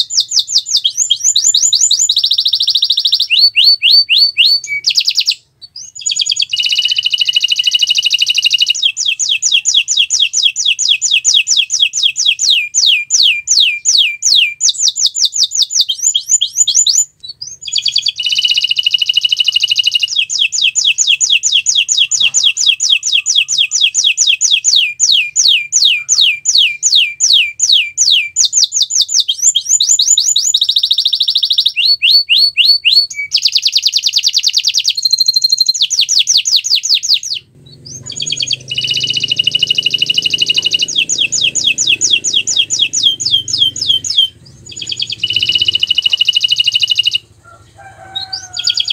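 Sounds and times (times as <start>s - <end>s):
canary singing rapid trills: 0.0s - 48.9s.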